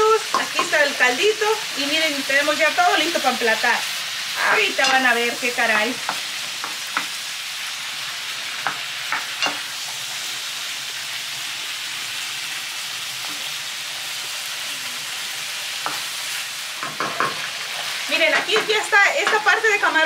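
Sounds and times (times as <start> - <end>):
shrimp sizzling in hot oil: 0.0 - 20.0.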